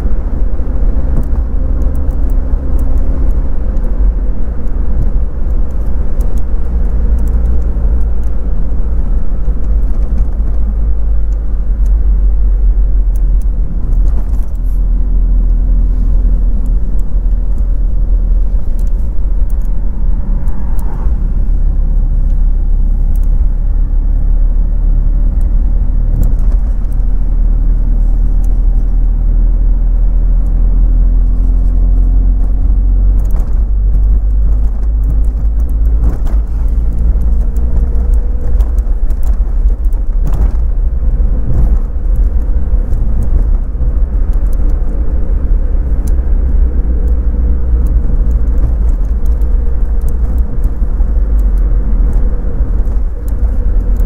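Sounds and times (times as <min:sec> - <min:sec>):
car engine: 0:00.0 - 0:54.0
road and wind noise: 0:00.0 - 0:54.0.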